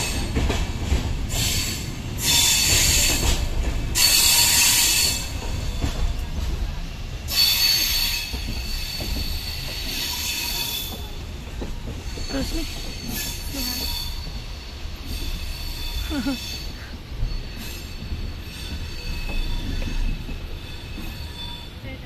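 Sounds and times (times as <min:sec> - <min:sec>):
train wheels squealing: 0:00.0 - 0:00.6, 0:01.3 - 0:06.3, 0:07.3 - 0:22.0
train running gear rumbling: 0:00.0 - 0:22.0.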